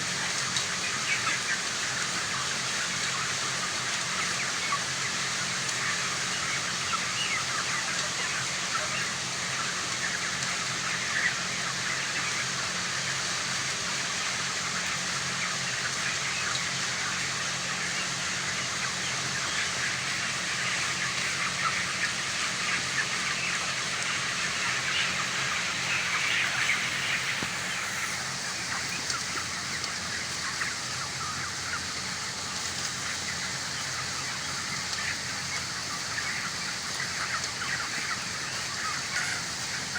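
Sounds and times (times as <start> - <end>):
chickens cheeping: 0.0 - 39.9.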